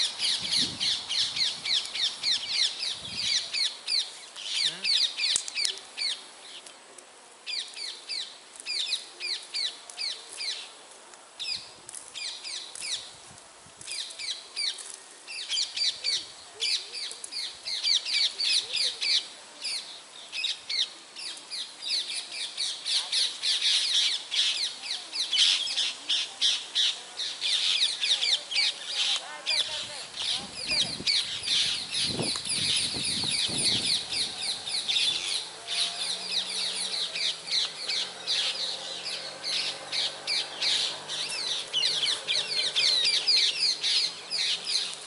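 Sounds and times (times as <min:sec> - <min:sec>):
small birds chirping: 0:00.0 - 0:10.8, 0:11.4 - 0:13.2, 0:13.8 - 0:45.0.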